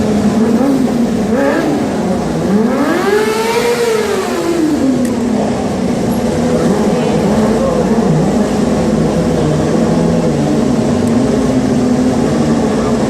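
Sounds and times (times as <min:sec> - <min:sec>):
background engine hum: 0:00.0 - 0:13.0
racing motorcycle engine passing: 0:00.0 - 0:13.0.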